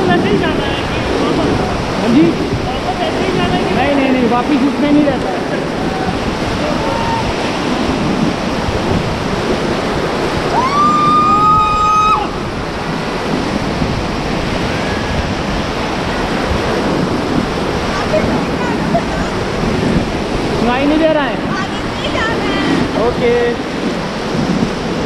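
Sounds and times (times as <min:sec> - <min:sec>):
whitewater rapids rushing: 0:00.0 - 0:25.0.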